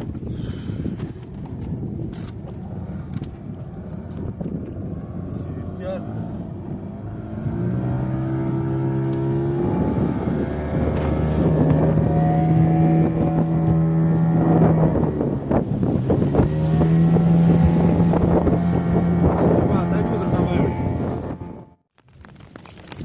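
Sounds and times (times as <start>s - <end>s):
wind buffeting microphone: 0.0s - 21.8s
boat engine running: 0.0s - 21.9s.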